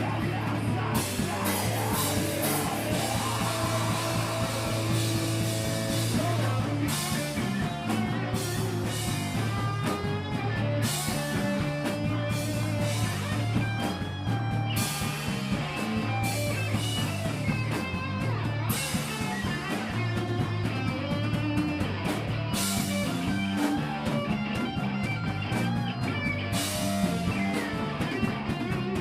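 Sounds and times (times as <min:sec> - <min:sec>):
bass: 0:00.0 - 0:29.0
drums: 0:00.0 - 0:29.0
electric guitar lines: 0:00.0 - 0:29.0.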